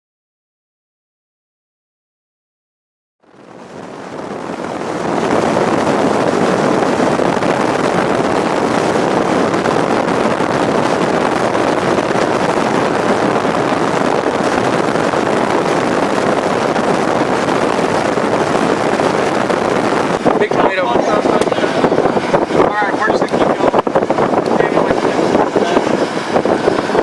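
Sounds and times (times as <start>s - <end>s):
rushing wind: 3.2s - 27.0s
vehicle road noise: 3.2s - 27.0s.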